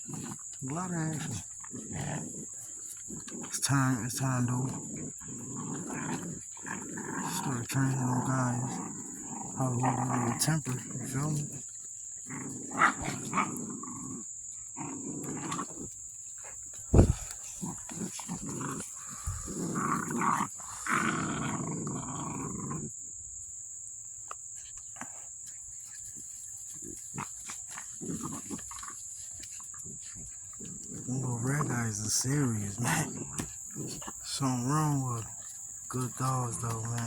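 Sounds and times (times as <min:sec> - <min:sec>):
puppies growling: 0:00.0 - 0:23.1, 0:26.0 - 0:37.0.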